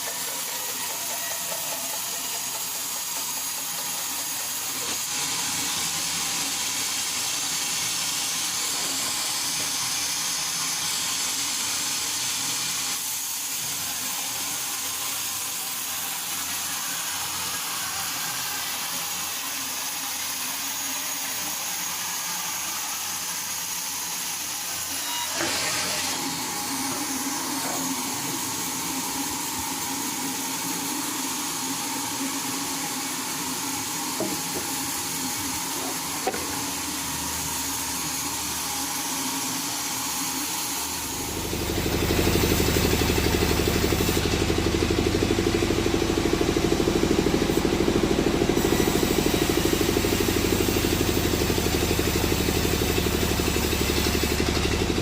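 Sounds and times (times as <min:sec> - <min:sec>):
sawmill machinery hissing: 0:00.0 - 0:55.0.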